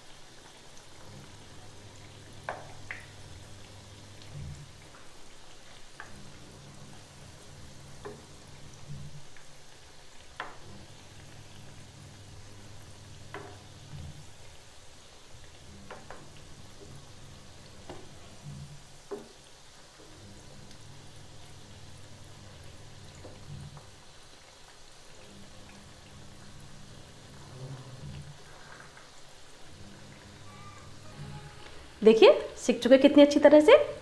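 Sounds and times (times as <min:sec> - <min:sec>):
patties sizzling in oil: 0:00.0 - 0:34.0.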